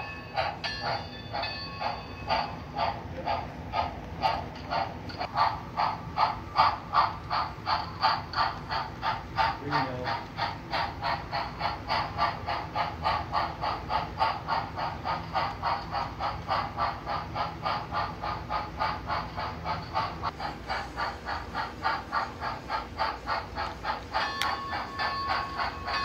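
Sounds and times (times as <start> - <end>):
model steam locomotive chuffs: 0.0 - 26.0.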